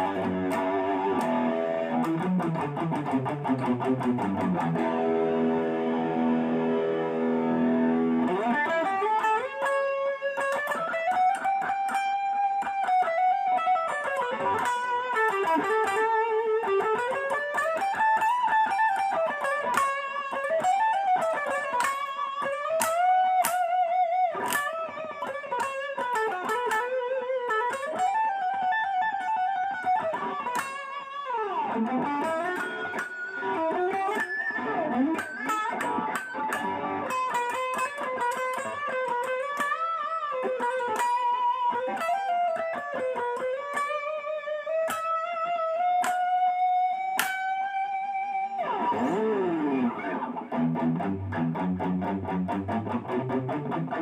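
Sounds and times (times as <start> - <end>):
electric guitar chord: 0.0 - 23.8, 24.4 - 54.0
electric guitar lead melody: 0.0 - 54.0.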